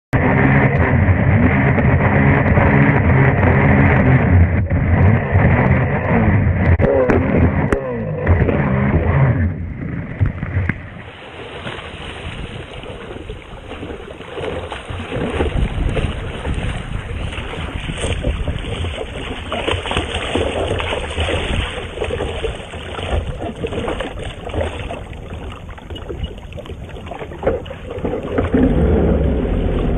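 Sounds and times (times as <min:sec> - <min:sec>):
jet ski engine running: 0:00.2 - 0:29.9
wind and water noise: 0:00.2 - 0:29.9.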